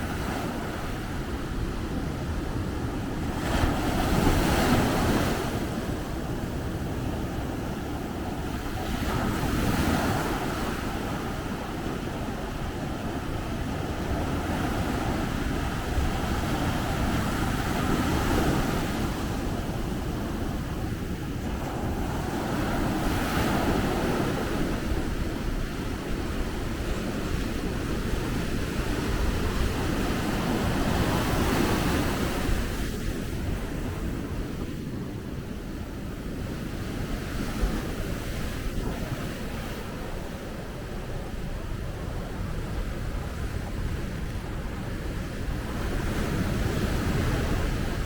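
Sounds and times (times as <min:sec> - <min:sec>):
wind rumbling on microphone: 0:00.0 - 0:48.0.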